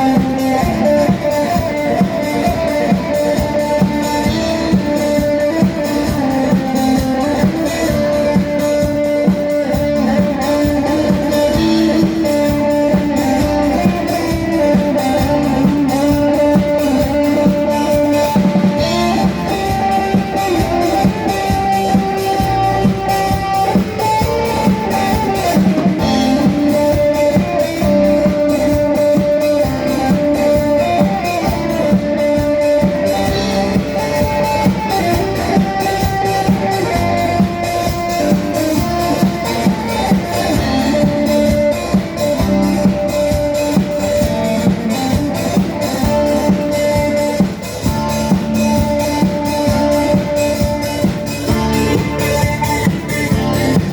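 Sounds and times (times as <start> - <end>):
guitar music with drum beat: 0.0 - 53.9.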